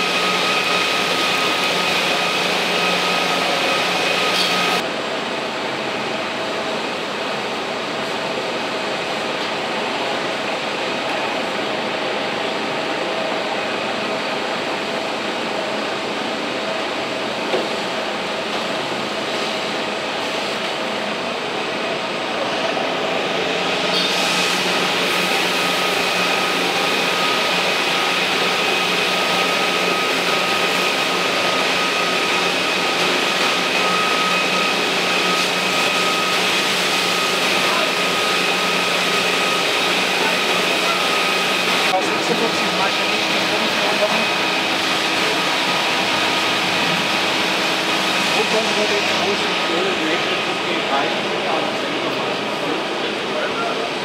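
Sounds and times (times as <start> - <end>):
fire engine droning: 0.0 - 54.0
steady whine: 0.0 - 54.0.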